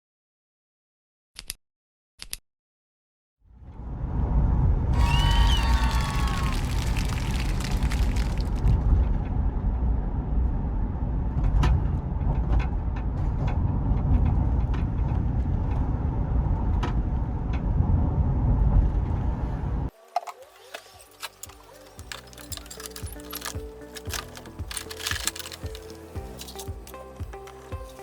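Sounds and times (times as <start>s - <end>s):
car road and engine noise: 3.5s - 28.0s.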